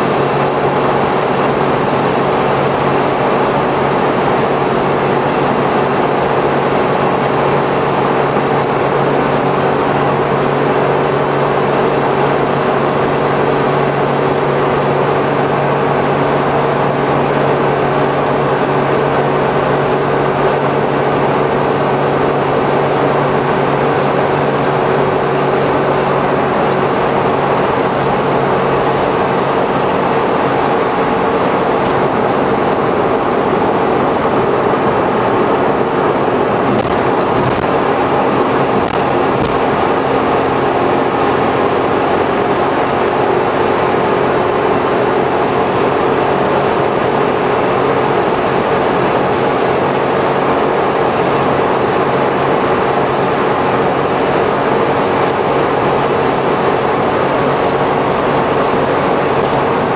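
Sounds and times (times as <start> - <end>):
engine and drivetrain drone: 0.0 - 59.9
tyre noise on wet road: 0.0 - 59.9.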